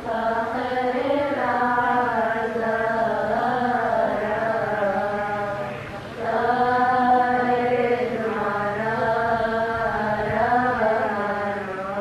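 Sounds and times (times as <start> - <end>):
woman chanting a hymn: 0.0 - 12.0.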